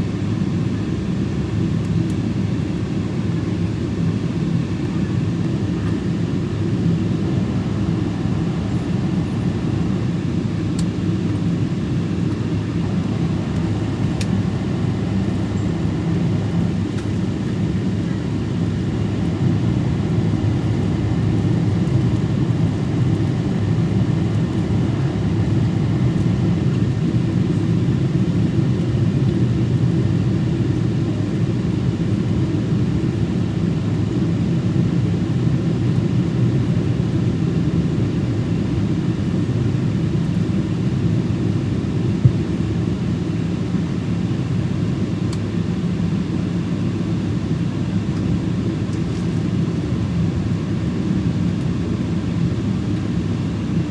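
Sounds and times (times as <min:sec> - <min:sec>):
airplane cabin rumble: 0:00.2 - 0:53.9.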